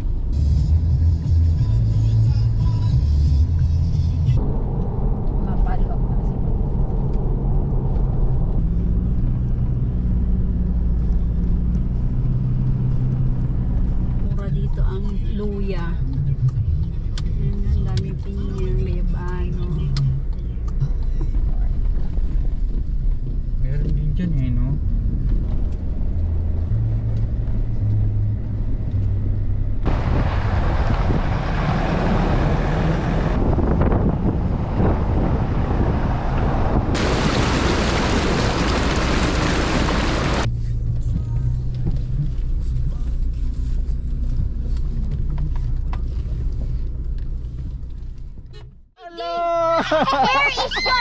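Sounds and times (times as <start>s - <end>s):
car engine and road noise: 0.0s - 51.0s
wind and tyre noise: 3.4s - 48.9s.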